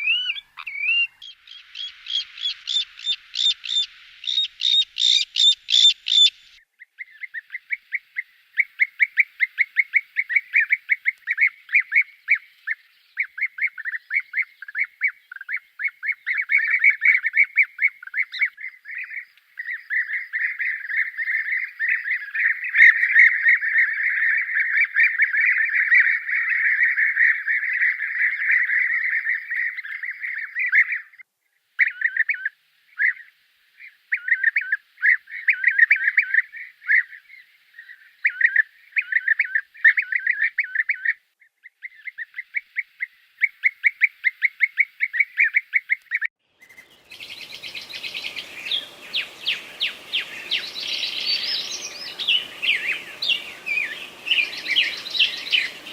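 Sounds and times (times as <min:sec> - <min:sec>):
bird calls chattering: 0:00.0 - 0:31.2, 0:37.8 - 0:55.9
higher-pitched bird calls: 0:00.0 - 0:31.2, 0:31.8 - 0:55.9
outdoor background noise: 0:00.0 - 0:55.9.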